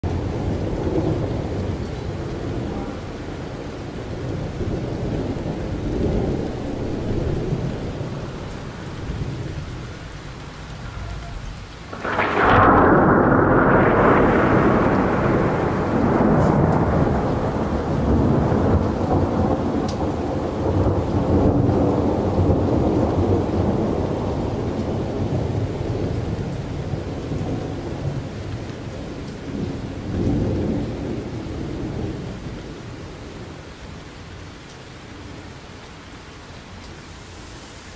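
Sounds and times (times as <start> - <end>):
rolling thunder: 0.0 - 33.6
steady rain: 0.0 - 37.9.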